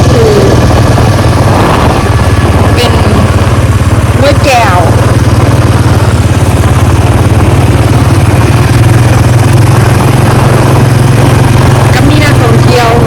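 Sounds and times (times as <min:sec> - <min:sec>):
constant low hum: 0:00.0 - 0:13.0
motorcycle engine running: 0:00.0 - 0:13.0.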